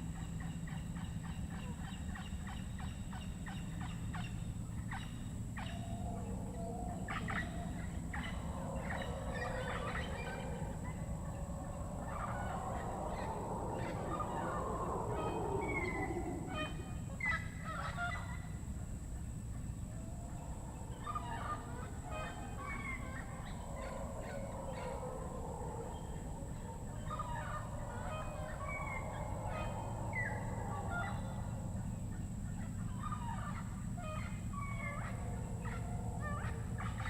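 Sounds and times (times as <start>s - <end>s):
howler monkeys roaring: 5.6s - 37.0s.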